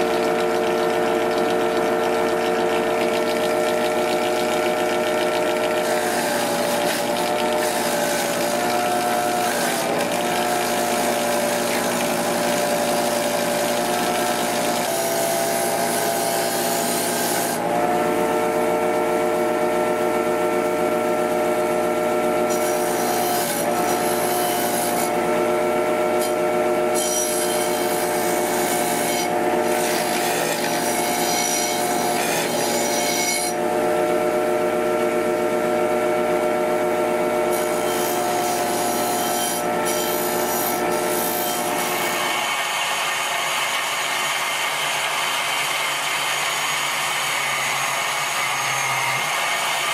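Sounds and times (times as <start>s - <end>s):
bench grinder grinding steel: 2.2s - 18.8s, 22.4s - 34.3s, 37.2s - 49.9s.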